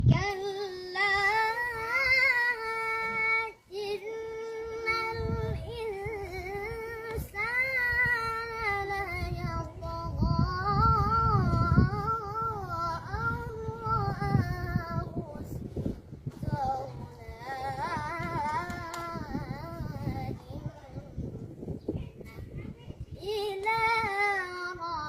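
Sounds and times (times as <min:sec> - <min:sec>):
child singing held notes: 0:00.0 - 0:25.0.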